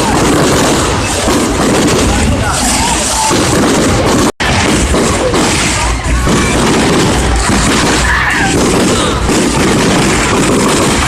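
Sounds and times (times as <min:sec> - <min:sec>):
crowd voices: 0:00.0 - 0:11.0
fireworks bangs and crackle: 0:00.0 - 0:11.0.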